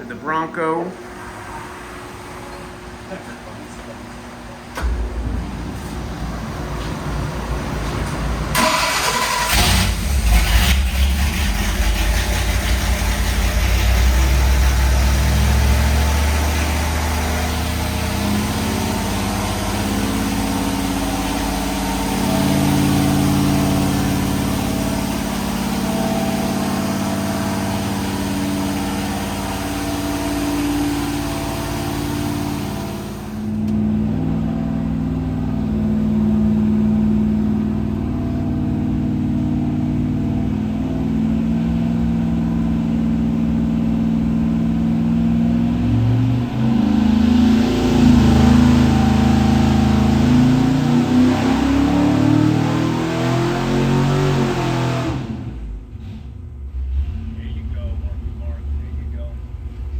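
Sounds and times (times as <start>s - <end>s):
engine running on dyno: 0.8s - 59.9s.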